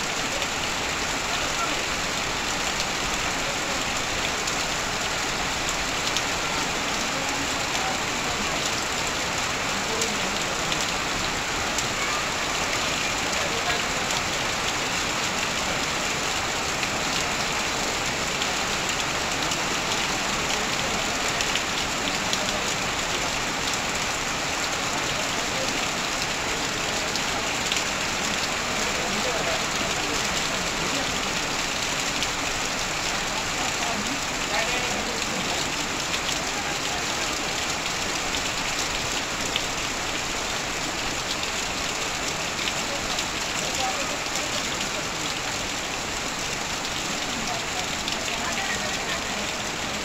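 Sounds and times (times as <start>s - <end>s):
heavy rain on a tin roof: 0.0s - 50.0s
water streaming onto ground: 0.0s - 50.0s.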